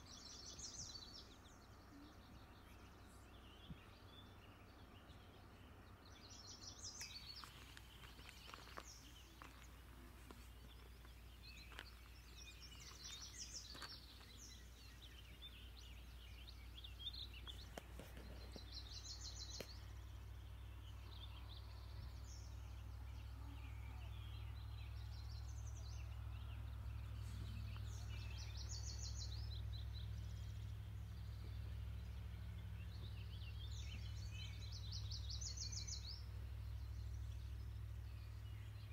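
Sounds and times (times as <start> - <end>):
faint low rumble: 0.0 - 38.9
songbirds chirping and trilling: 0.0 - 38.9.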